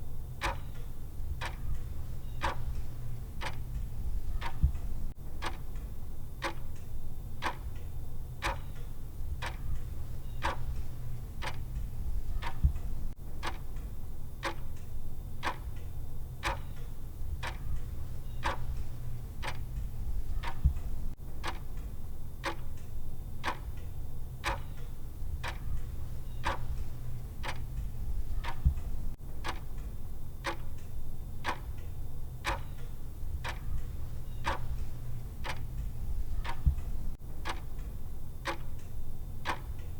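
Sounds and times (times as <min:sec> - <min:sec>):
low steady hum: 0:00.0 - 0:39.9
timer clock ticking: 0:00.4 - 0:14.8, 0:15.4 - 0:39.9.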